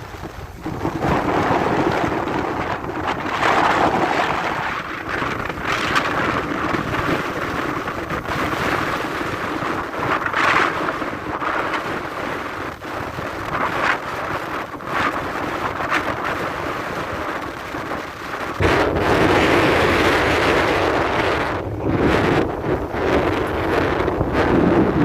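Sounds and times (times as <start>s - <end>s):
rain rushing: 0.0s - 25.0s
waves: 0.0s - 25.0s
wind buffeting microphone: 0.0s - 25.0s.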